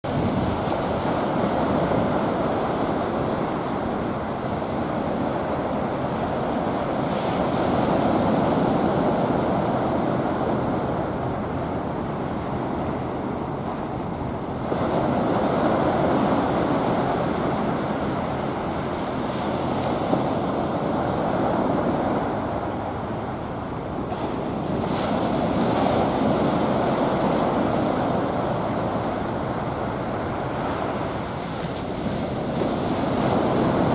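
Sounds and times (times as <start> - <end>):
ocean surf breaking on beach: 0.1 - 33.9.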